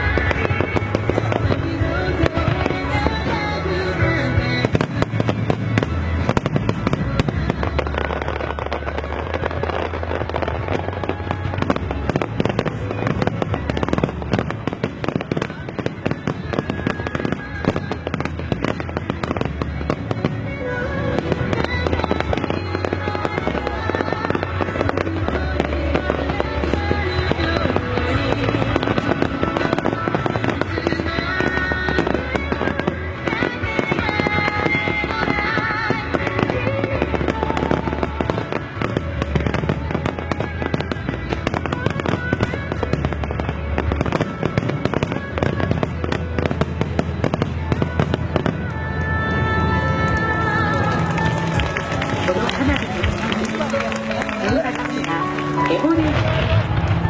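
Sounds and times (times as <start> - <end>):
fireworks bursting and crackling: 0.0 - 57.0
music with steady bass line: 0.0 - 57.0.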